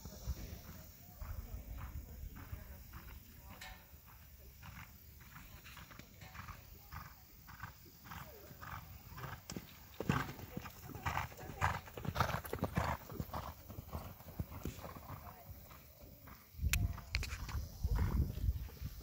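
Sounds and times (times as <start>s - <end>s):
horse hoofbeats on sand: 0.0s - 19.0s.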